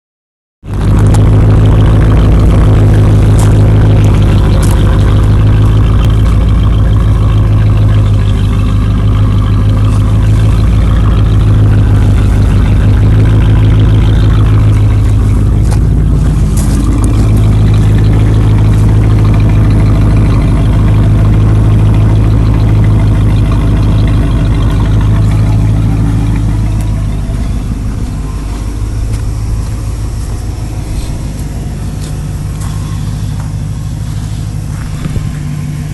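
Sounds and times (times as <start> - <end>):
truck engine idling loudly: 0.6 - 35.9.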